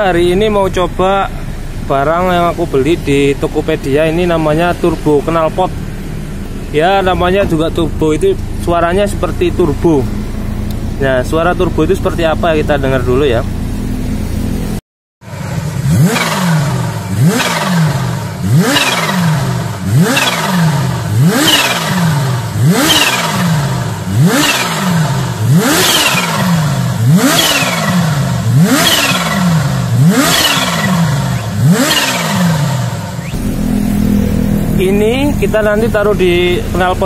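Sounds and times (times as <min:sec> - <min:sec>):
engine revving: 0:00.0 - 0:37.0.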